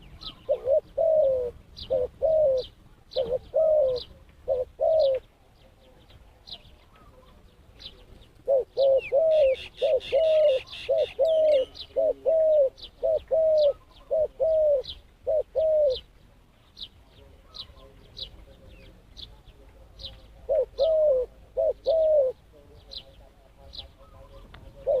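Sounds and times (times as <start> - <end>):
dove cooing: 0.0 - 16.2, 20.0 - 23.0, 23.7 - 25.0
small birds chirping: 0.0 - 25.0.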